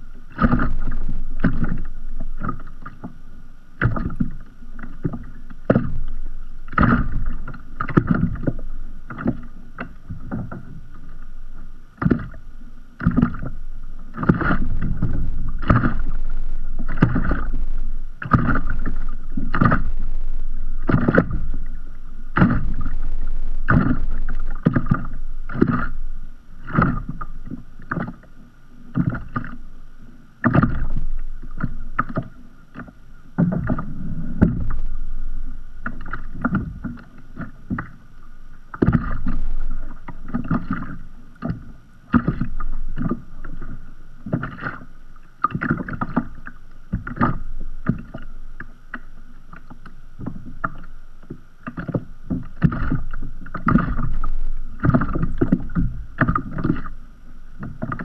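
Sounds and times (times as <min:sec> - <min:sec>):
waves lapping against kayak hull: 0:00.0 - 0:58.0.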